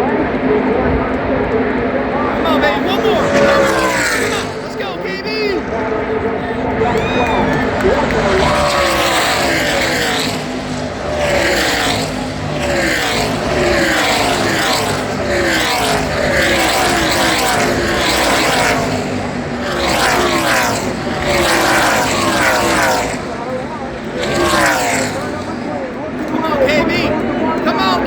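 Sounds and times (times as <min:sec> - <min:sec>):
race trucks passing at speed: 0:00.0 - 0:28.0.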